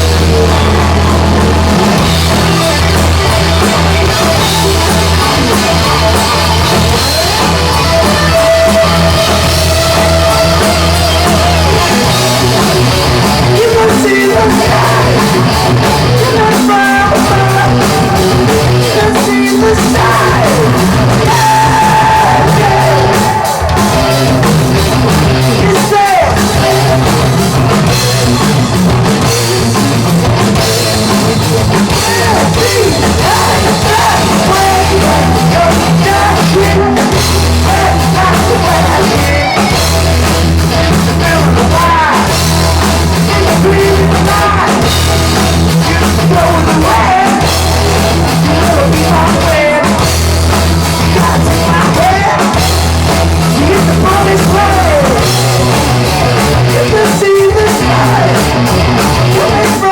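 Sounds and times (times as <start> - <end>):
hard rock band playing: 0.0 - 59.9
person singing: 4.3 - 27.6, 29.0 - 40.0, 40.8 - 50.2, 51.0 - 55.8, 56.6 - 59.9.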